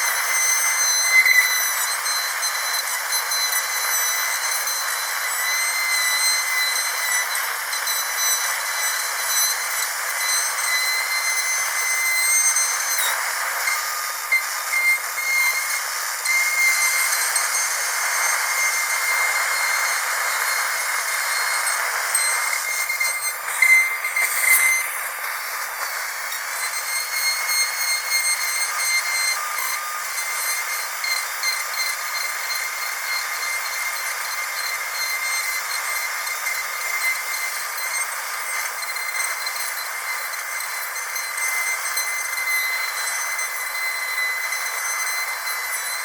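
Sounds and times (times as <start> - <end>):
dentist's drill whining: 0.0 - 46.0.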